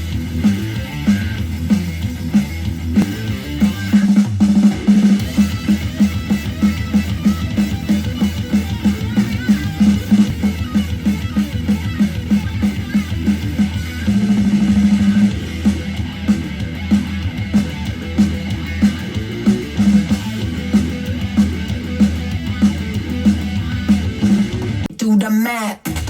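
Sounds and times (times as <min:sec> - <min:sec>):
instrumental music with guitar and bass: 0:00.0 - 0:24.9.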